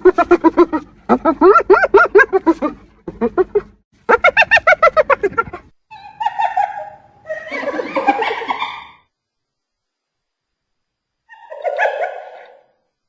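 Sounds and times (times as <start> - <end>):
hyena squeals and whines: 0.0 - 9.0, 11.3 - 12.8
hyena giggling yelps: 0.0 - 9.1, 11.3 - 12.8.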